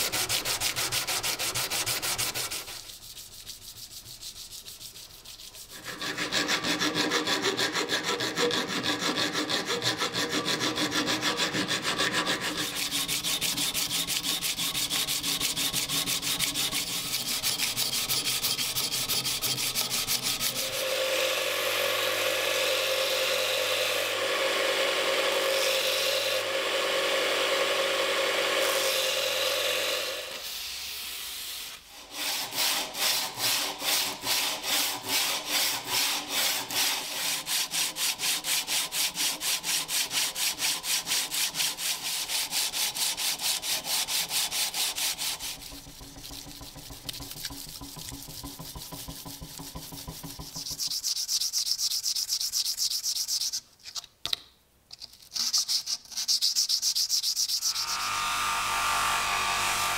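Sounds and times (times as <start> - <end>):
sandpaper scraping knife blade: 0.0 - 24.4, 28.6 - 53.7, 55.1 - 58.2.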